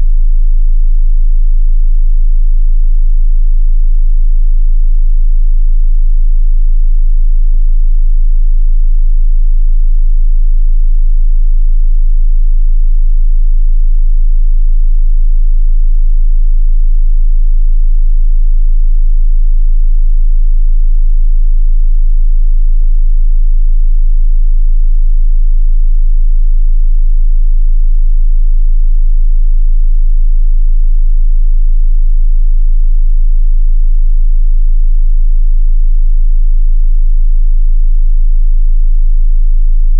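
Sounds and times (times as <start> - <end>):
deep bass test tone: 0.0 - 39.9.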